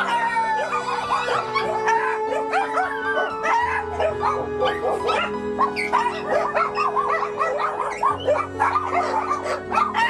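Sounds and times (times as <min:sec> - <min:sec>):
background music with sustained chords: 0:00.0 - 0:10.0
many dogs barking and yelping: 0:00.0 - 0:10.0.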